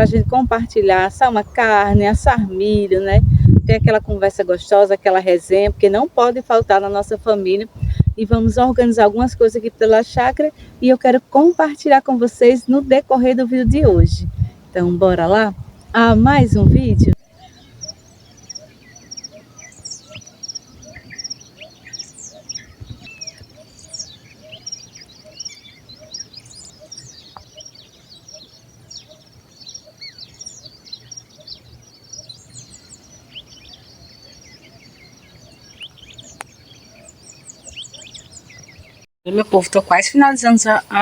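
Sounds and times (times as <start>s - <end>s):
birds chirping: 0.0s - 41.0s
high ticking bird notes: 0.0s - 41.0s.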